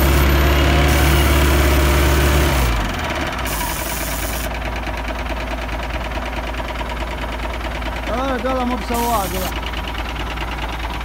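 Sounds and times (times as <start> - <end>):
off-road vehicle engine idling: 0.0 - 11.0.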